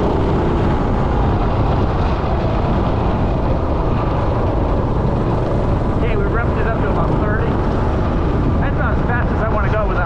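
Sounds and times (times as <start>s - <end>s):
minibike engine running: 0.0s - 9.9s.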